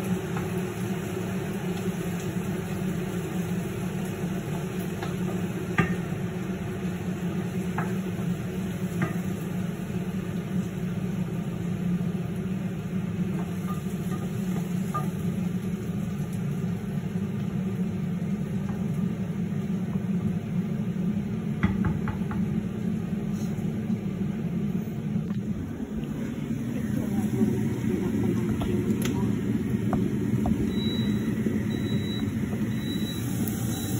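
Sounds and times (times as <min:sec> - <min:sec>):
fan or motor humming: 0:00.0 - 0:33.9.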